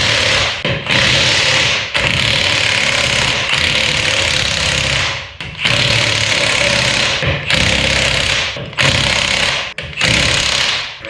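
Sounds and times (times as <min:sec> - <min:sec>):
impact wrench hammering: 0:00.0 - 0:11.0.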